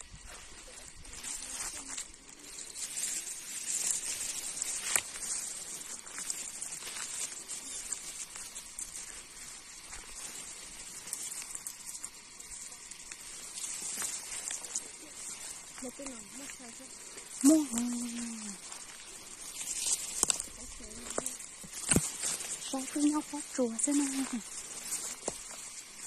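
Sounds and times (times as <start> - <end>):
grass and leaves rustling: 0.0 - 26.0.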